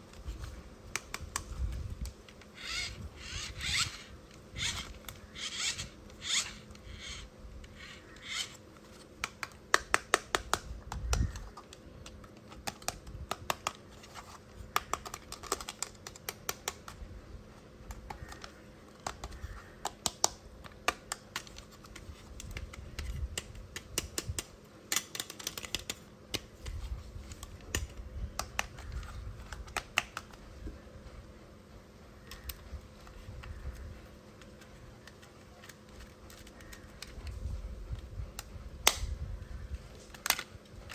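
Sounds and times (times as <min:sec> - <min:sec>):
plastic clicks and rattles: 0:00.1 - 0:17.0, 0:17.9 - 0:30.8, 0:32.2 - 0:39.2, 0:39.8 - 0:40.9.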